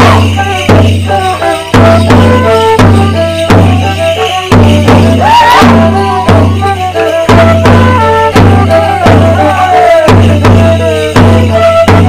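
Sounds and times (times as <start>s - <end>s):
fiddle melody: 0.0s - 12.0s.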